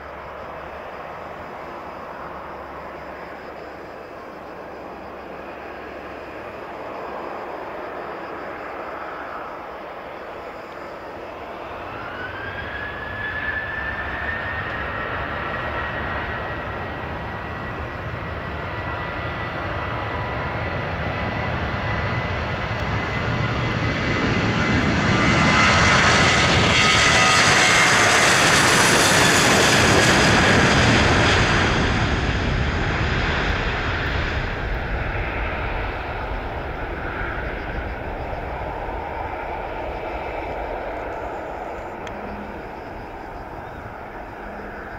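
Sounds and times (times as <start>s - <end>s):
jet taking off: 0.0s - 44.9s
jet engines spooling up: 6.3s - 44.9s.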